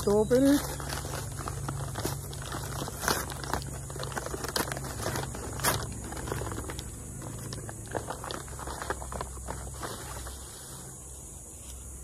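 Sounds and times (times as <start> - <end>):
paper bag crinkling: 0.0 - 11.0.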